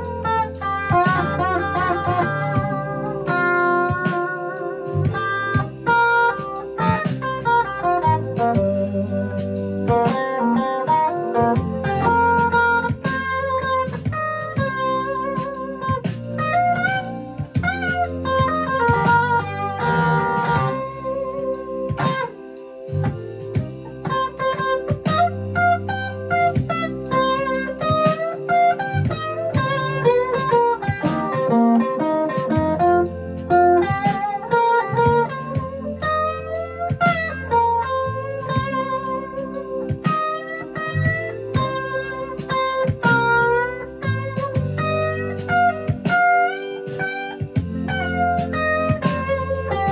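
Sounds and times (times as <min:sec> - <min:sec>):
blues electric guitar: 0:00.0 - 0:49.9.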